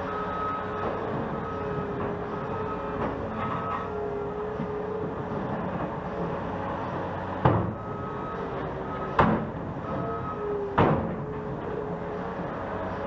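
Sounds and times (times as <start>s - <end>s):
construction machinery droning: 0.0s - 13.0s
machinery whine: 0.0s - 13.0s.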